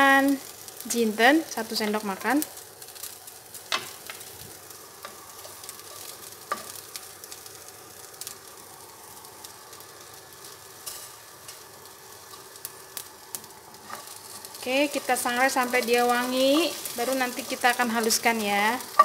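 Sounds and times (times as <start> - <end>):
hot pan hissing: 0.0 - 19.0.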